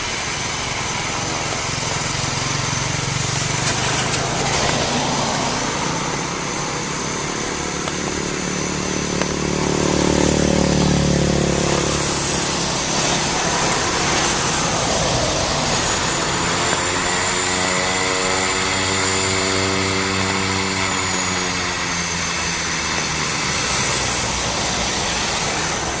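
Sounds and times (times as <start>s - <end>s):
propeller drone: 0.0s - 26.0s
turbine whine: 0.0s - 26.0s.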